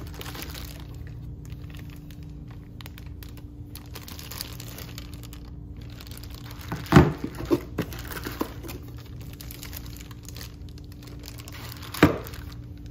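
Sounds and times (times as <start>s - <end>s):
crackles and knocks: 0.0s - 12.9s
plastic bag crinkling: 0.0s - 12.9s.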